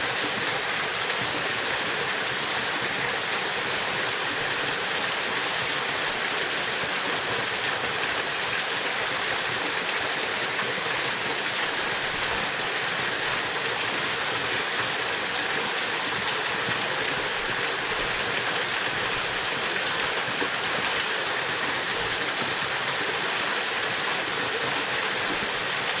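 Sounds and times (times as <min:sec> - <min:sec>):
waterfall pouring into pool: 0:00.0 - 0:26.0.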